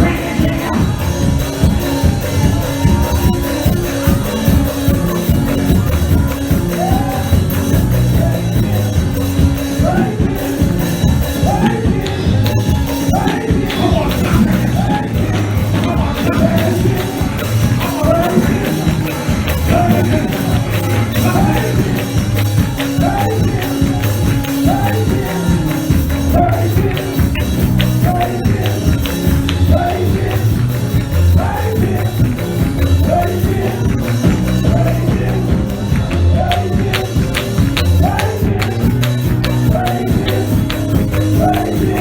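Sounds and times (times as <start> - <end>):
upbeat worship band music: 0.0 - 42.0.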